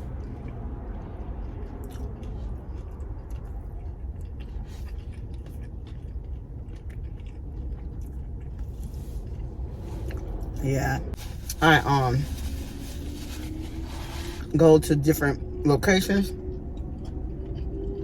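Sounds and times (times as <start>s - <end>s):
person chewing crunchy crust: 0.0s - 14.6s, 17.0s - 18.0s
steady low rumble: 0.0s - 18.0s.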